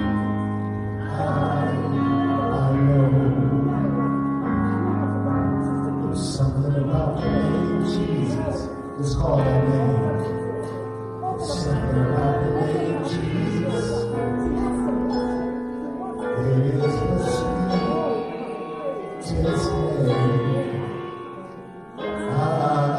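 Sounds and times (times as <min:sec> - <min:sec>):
keyboard chords: 0:00.0 - 0:22.9
man singing gospel song: 0:00.0 - 0:22.9.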